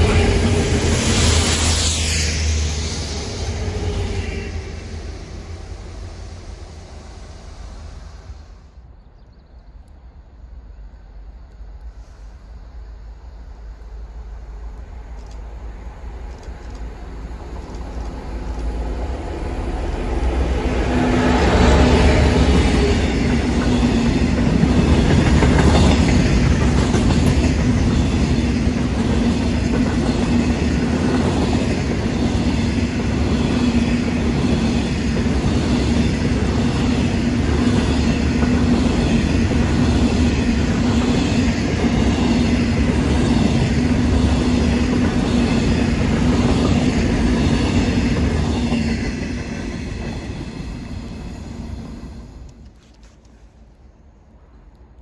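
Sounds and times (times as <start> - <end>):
train low drone: 0.0 - 55.0.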